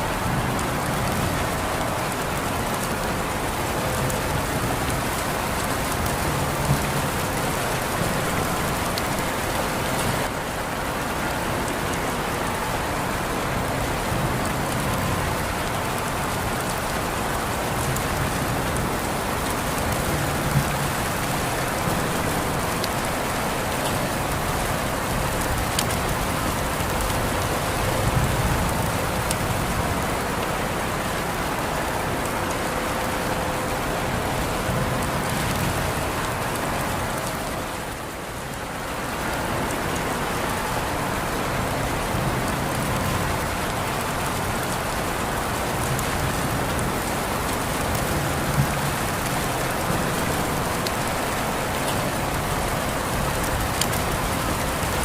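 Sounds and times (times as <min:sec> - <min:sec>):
rain drops ticking: 0:00.0 - 0:55.0
steady rain falling: 0:00.0 - 0:55.0.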